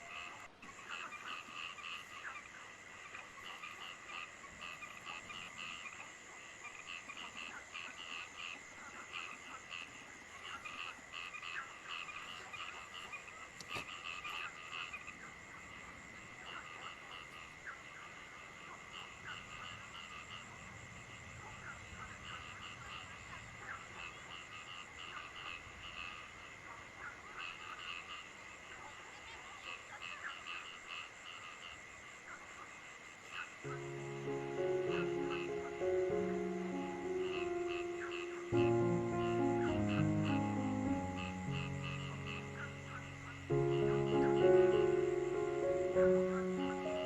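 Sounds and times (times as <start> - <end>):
frogs calling in pulses: 0.0 - 47.0.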